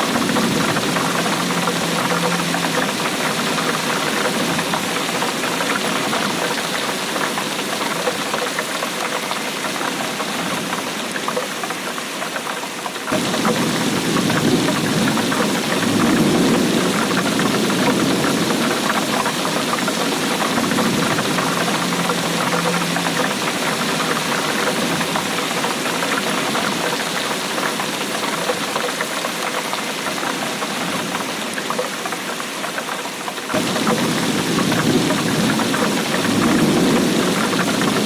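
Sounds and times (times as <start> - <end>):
heavy rainfall: 0.0 - 38.0.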